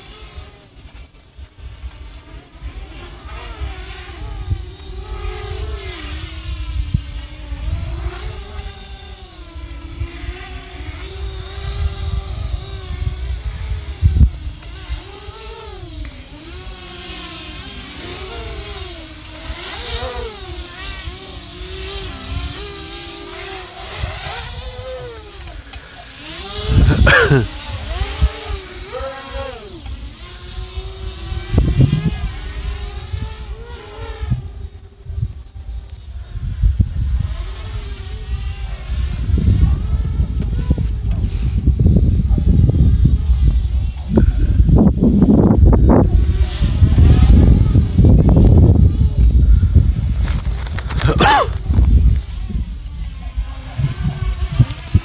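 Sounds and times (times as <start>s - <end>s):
quadcopter motors whining: 0.0s - 55.0s
wind noise on microphone: 0.0s - 55.0s.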